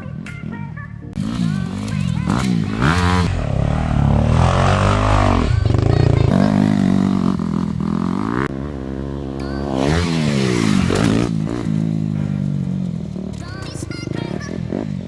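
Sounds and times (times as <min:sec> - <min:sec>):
dirt bike engine revving: 0:00.5 - 0:15.0.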